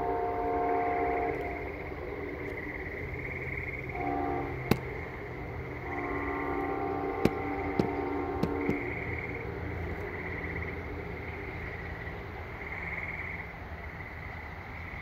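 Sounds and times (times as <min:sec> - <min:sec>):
insects trilling: 0:00.0 - 0:15.0
low steady rumble: 0:00.0 - 0:15.0.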